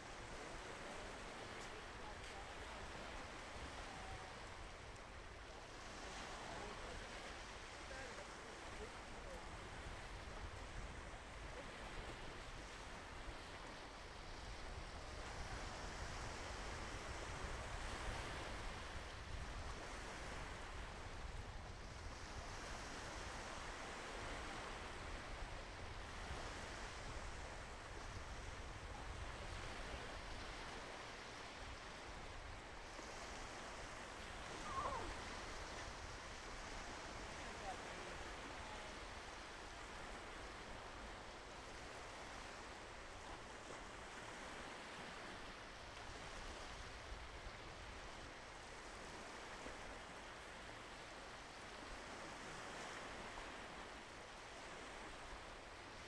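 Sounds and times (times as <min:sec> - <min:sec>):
surf washing on beach: 0:00.0 - 0:56.0.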